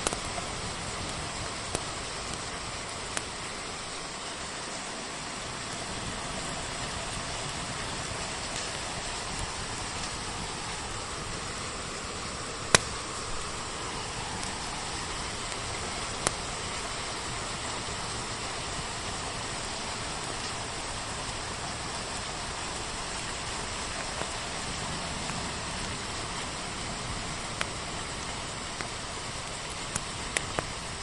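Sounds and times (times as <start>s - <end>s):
rain hiss: 0.0s - 31.0s
wood fire crackling: 0.0s - 31.0s.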